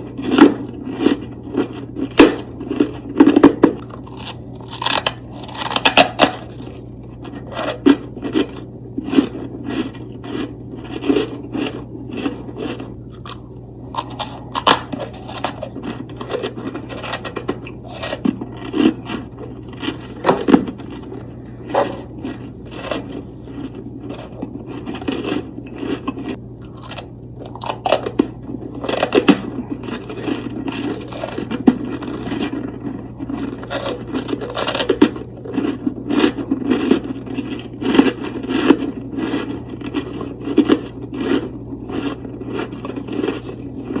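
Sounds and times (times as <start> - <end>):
frost crunched and chewed: 0.0 - 44.0.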